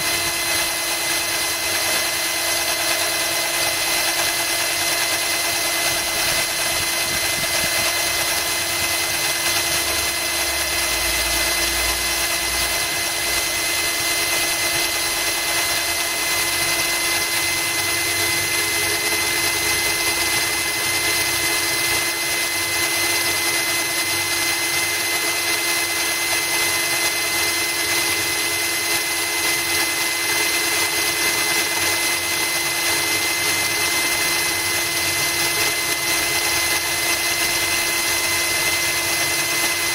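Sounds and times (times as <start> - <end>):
cordless drill whining: 0.0 - 39.9
drill bit grinding glass: 0.0 - 39.9.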